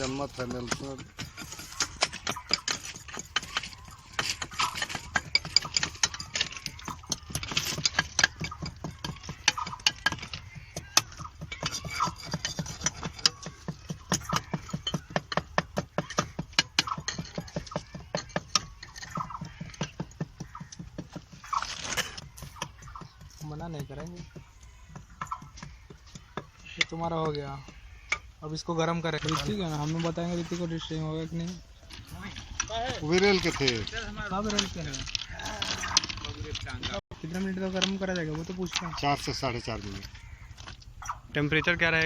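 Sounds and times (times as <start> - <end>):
faint voices: 0.0 - 40.4
rapid mechanical clicking: 0.0 - 42.0.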